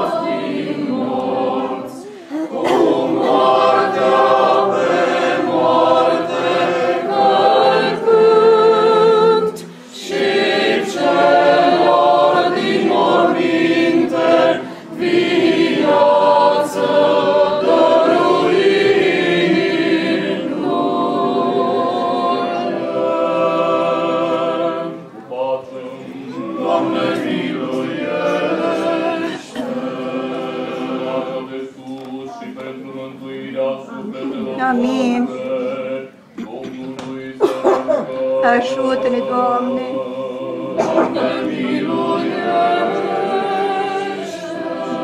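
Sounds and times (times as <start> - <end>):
vocal group chanting in chords: 0.0 - 45.0.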